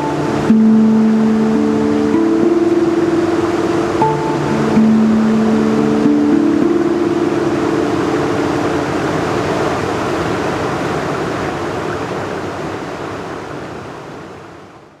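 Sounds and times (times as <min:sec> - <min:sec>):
river water rushing: 0:00.0 - 0:14.8.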